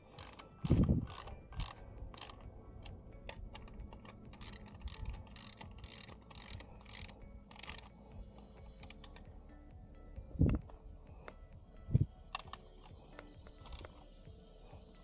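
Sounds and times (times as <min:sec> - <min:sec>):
ratchet wrench ratcheting: 0:00.0 - 0:09.3, 0:11.2 - 0:15.0.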